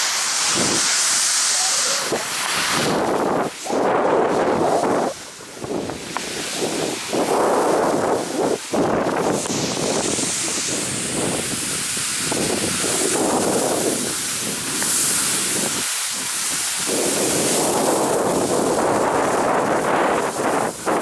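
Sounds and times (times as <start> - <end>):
skis sliding on snow: 0.0 - 21.0
wind buffeting microphone: 2.0 - 21.0.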